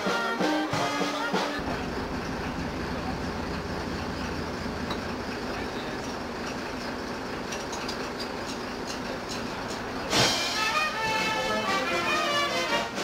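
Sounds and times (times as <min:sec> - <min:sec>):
railway carriage rumble and hiss: 0:00.0 - 0:13.0.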